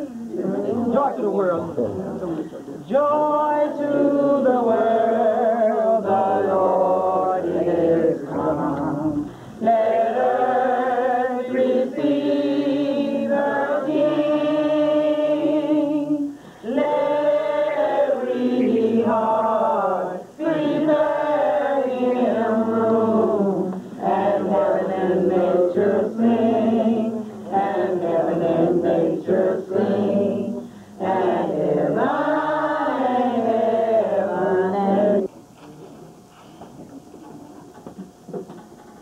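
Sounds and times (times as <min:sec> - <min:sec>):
group singing unaccompanied: 0:00.0 - 0:01.2, 0:02.8 - 0:35.3.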